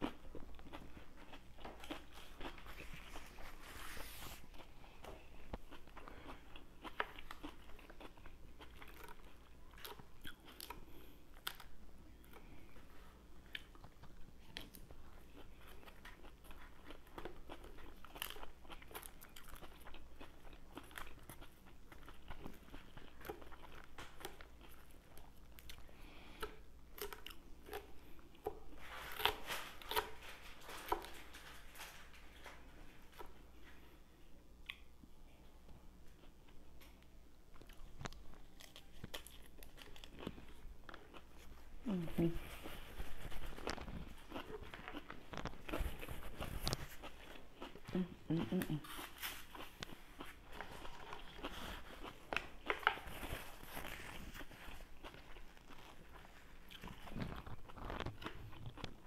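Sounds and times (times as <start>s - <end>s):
chewing crisp lettuce: 0.0s - 59.0s.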